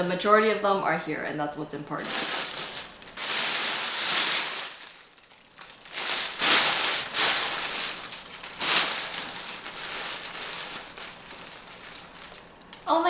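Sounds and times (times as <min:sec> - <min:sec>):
plastic sheet crinkling: 0:02.0 - 0:13.0.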